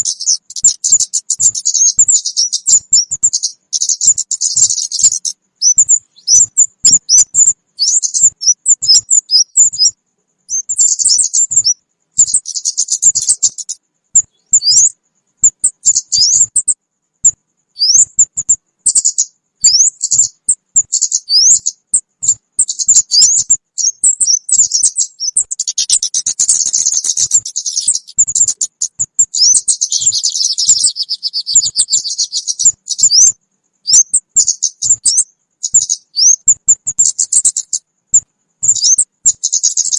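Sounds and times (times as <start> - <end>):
bird calls with rapid chirps: 0.0 - 39.9.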